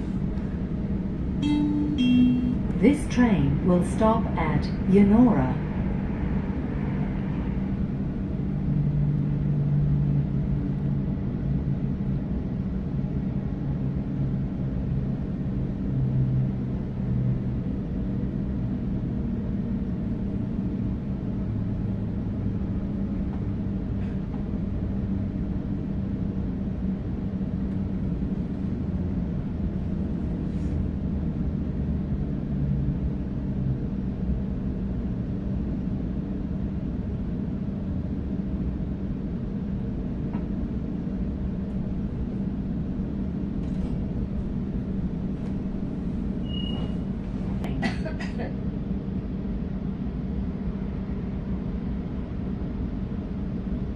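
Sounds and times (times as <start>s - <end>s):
low train hum: 0.0s - 53.9s
train rumbling on track: 0.0s - 53.9s.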